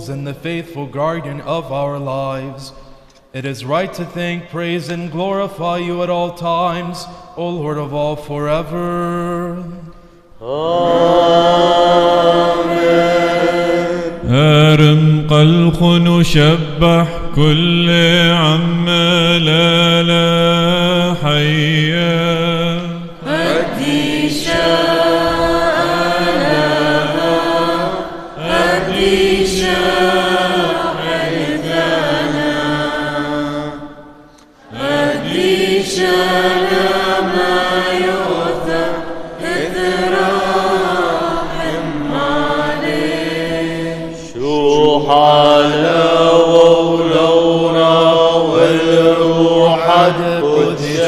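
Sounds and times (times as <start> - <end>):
liturgical chant: 0.0 - 51.0.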